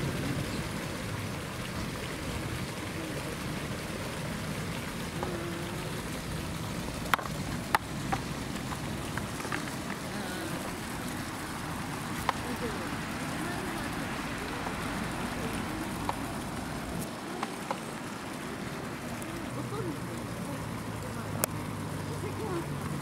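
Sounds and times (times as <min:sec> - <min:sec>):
water splashing: 0:00.0 - 0:23.0.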